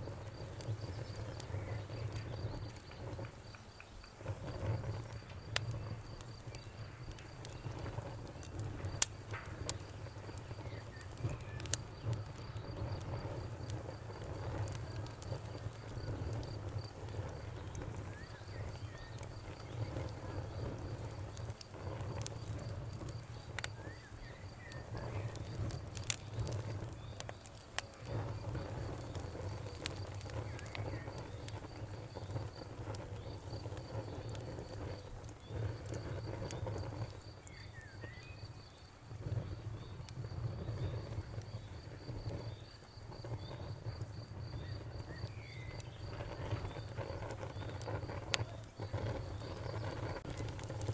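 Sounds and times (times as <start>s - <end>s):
campfire crackling: 0.0s - 50.9s
cricket chirping: 0.0s - 50.9s.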